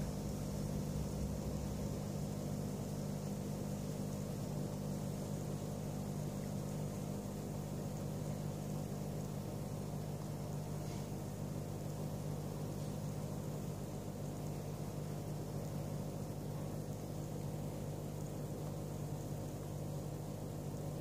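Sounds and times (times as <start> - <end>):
faint hiss: 0.0 - 21.0.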